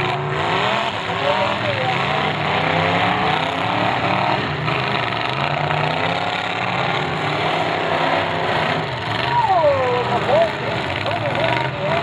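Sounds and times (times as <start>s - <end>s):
several car engines revving: 0.0s - 12.0s.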